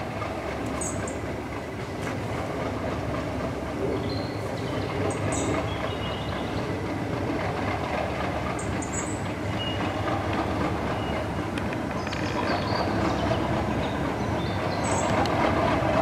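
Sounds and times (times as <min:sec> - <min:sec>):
train rumbling on track: 0:00.0 - 0:16.0
wheels squealing on rail: 0:02.6 - 0:16.0.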